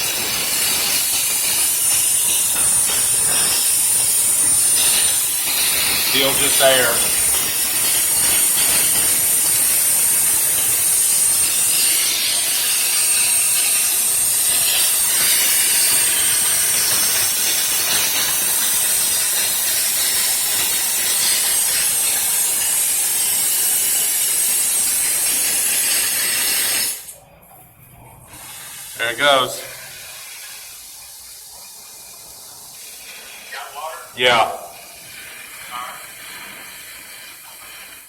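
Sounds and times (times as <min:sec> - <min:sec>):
air hissing from pipe: 0:00.0 - 0:27.2, 0:28.3 - 0:38.0.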